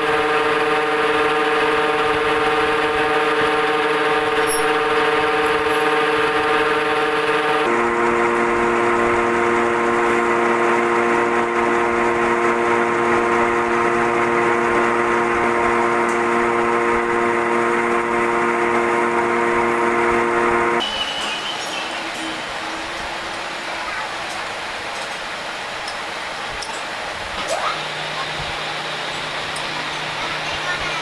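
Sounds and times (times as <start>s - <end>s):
metal lathe whining: 0.0s - 25.1s, 27.8s - 31.0s.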